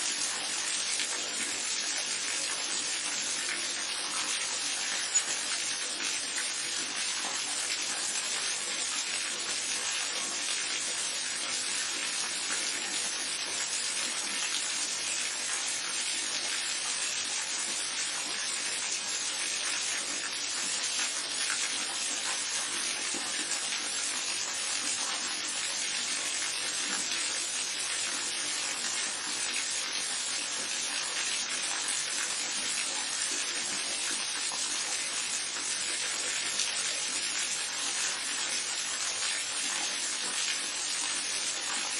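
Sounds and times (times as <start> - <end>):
waterfall and babbling brook: 0.0 - 41.9.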